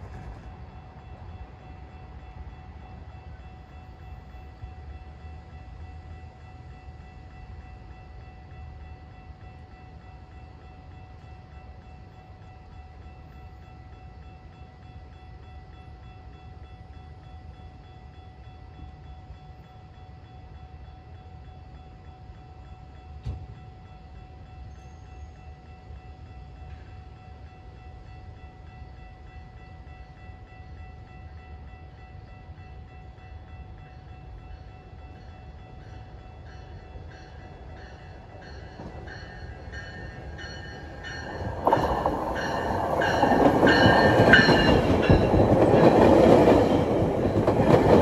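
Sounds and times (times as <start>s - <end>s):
distant train rumble: 0.0s - 48.0s.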